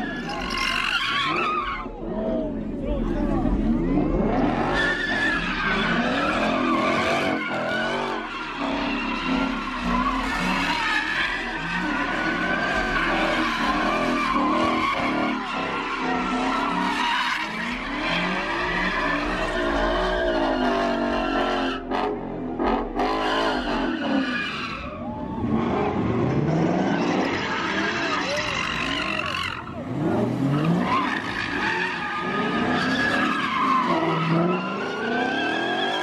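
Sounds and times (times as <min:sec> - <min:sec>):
car engines revving: 0:00.0 - 0:36.0.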